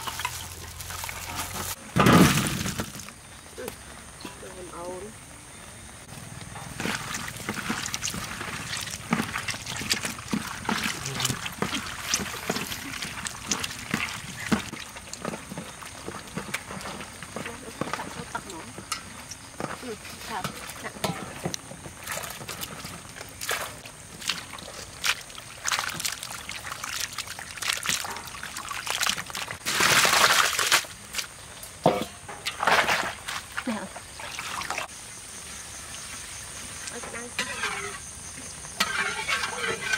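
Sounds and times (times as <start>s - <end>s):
water sloshing and trickling: 0.0s - 1.8s, 6.4s - 34.9s, 35.9s - 39.9s.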